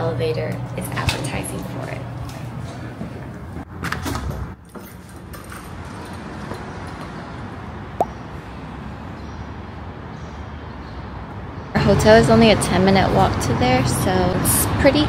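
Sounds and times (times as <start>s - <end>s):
distant traffic hum: 0.0s - 15.0s.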